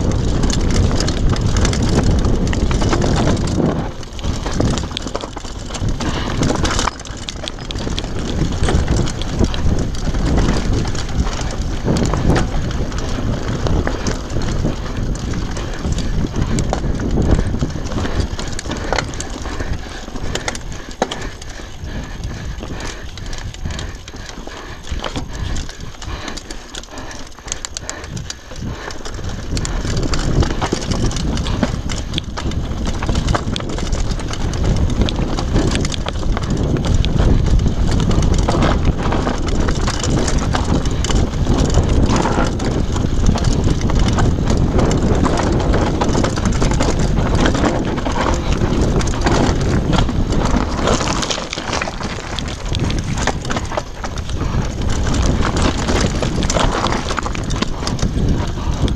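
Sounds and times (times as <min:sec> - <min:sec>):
mountain bike rattling over rocks: 0:00.0 - 0:58.9
wind on microphone: 0:00.0 - 0:58.9
tyres crunching on stones: 0:00.2 - 0:58.9.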